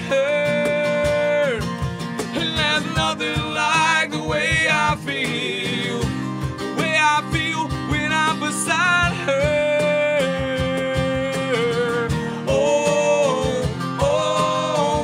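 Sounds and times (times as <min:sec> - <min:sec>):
acoustic guitars strumming: 0:00.0 - 0:15.0
percussion beat: 0:00.0 - 0:15.0.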